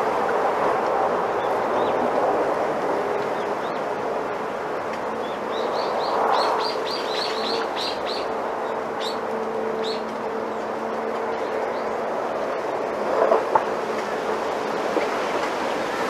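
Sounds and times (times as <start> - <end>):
bamboo leaves rustling in wind: 0.0 - 16.0.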